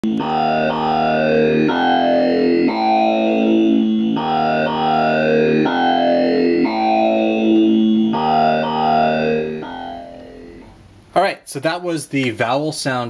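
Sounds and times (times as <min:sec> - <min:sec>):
synthesizer vowel-like sequence: 0:00.0 - 0:10.8.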